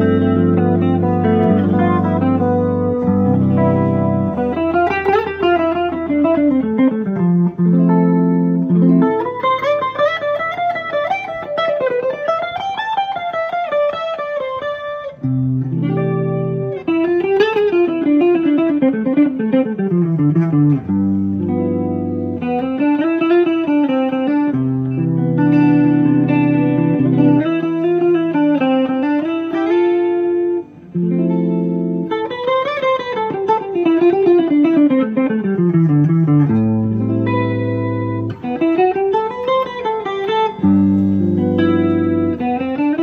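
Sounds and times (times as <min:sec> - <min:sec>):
electric guitar improvising: 0:00.0 - 0:43.0.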